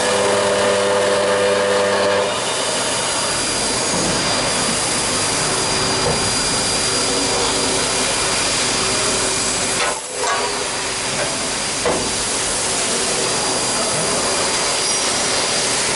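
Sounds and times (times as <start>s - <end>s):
lathe hiss with high whine: 0.0s - 15.9s.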